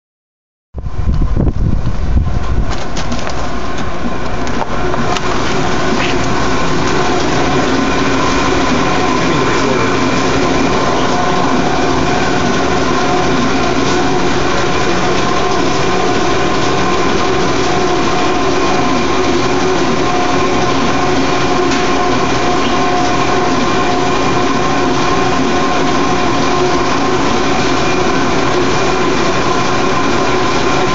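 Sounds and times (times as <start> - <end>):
machine hum with held tones: 0.8 - 30.9.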